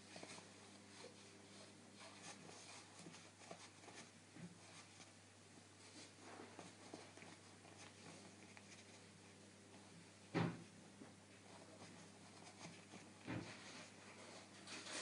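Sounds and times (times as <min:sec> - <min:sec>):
faint rustles and clicks: 0:00.0 - 0:15.0
low steady hum: 0:00.0 - 0:15.0.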